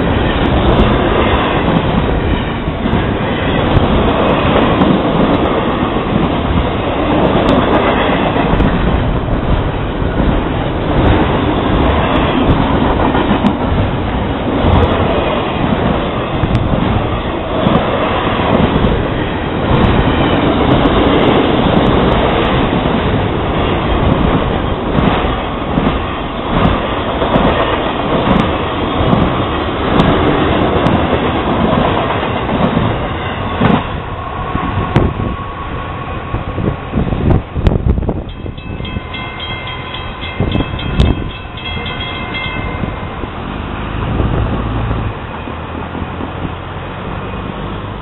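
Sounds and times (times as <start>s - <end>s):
freight train wheels clattering: 0.0s - 48.0s.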